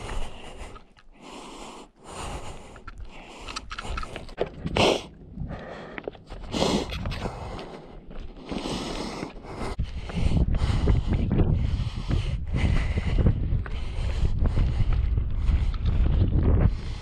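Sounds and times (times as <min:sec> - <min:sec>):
heavy breathing: 0:00.0 - 0:17.0.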